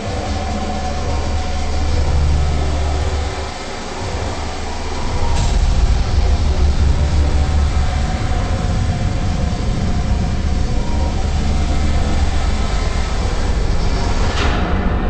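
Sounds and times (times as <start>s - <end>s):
rumbling noise with low drone: 0.0s - 15.0s.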